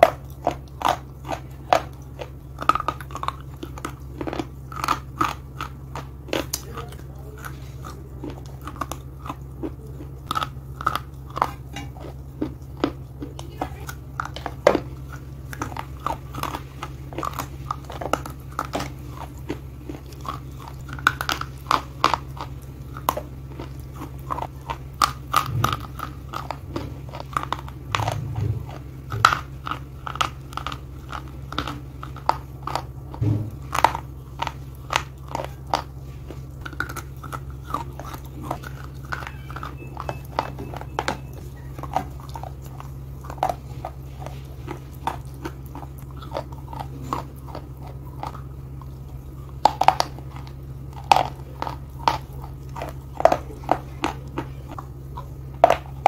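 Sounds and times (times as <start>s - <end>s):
crunchy chewing: 0.0s - 56.0s
low hum: 0.0s - 56.0s.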